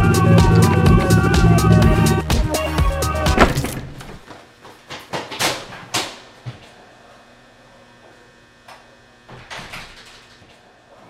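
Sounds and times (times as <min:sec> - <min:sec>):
electrical room hum: 0:00.0 - 0:11.0.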